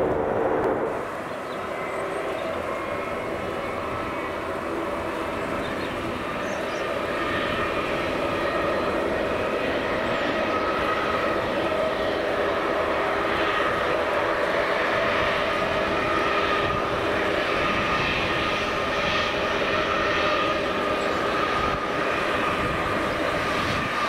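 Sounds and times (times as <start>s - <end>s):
airliner engines whining: 0.0s - 24.0s.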